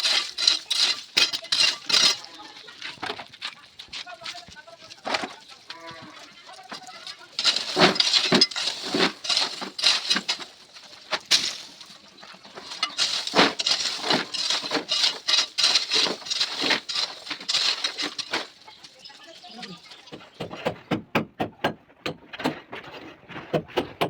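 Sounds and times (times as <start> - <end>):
hand tool scraping and clinking: 0.0 - 20.4.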